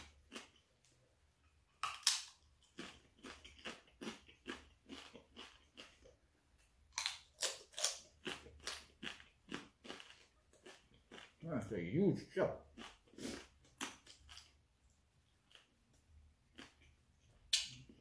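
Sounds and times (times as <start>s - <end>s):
chewing with crunches: 0.0s - 1.0s, 1.7s - 6.2s, 6.9s - 11.6s, 12.6s - 18.0s.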